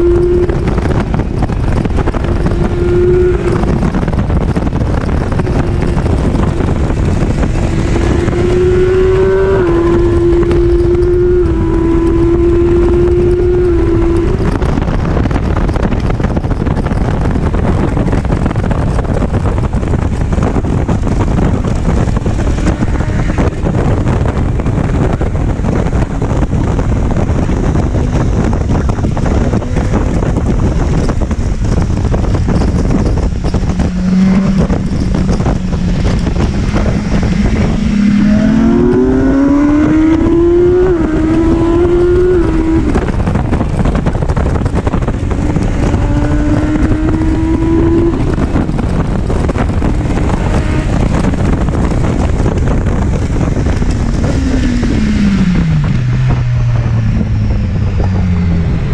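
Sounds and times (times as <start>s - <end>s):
motorcycle engine running: 0.0s - 58.9s
wind rush on microphone: 0.0s - 58.9s.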